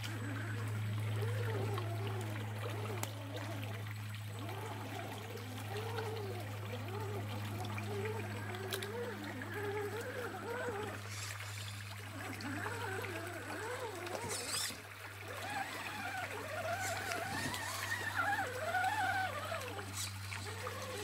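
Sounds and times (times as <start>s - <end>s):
creek water trickling and gurgling: 0.0s - 21.0s
steady low hum: 0.0s - 21.0s.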